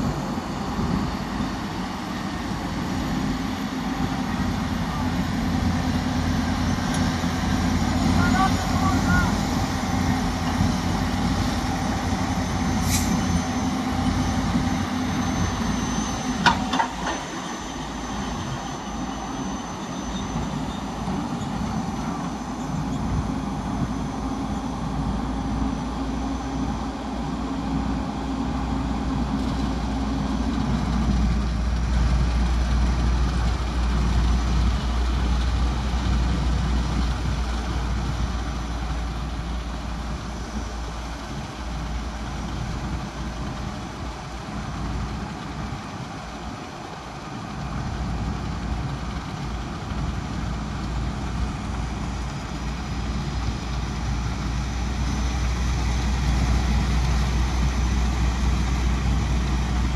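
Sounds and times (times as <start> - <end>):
diesel construction machinery running: 0.0 - 59.9.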